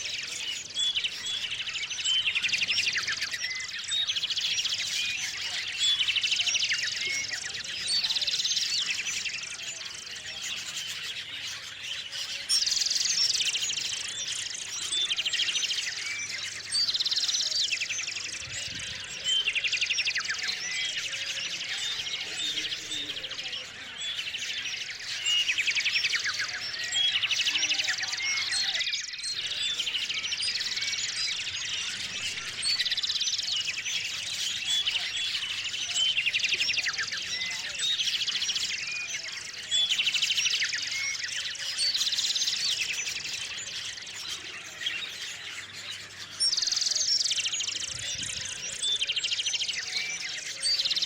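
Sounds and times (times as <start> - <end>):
songbirds chirping: 0.0 - 51.0
trilled birdsong phrases: 0.0 - 51.0.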